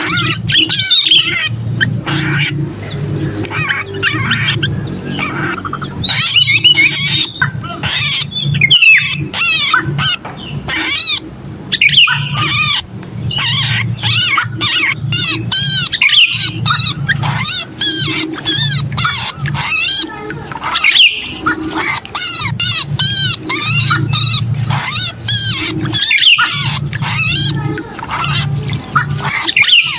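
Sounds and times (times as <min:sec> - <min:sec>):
bird chattering distress calls: 0:00.0 - 0:29.9
steady low hum: 0:00.0 - 0:29.9.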